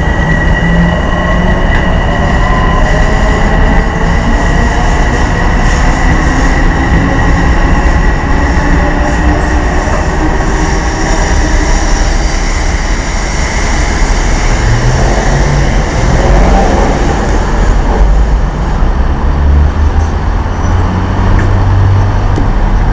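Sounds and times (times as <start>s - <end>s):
train wheel and rail rumble: 0.0s - 22.9s.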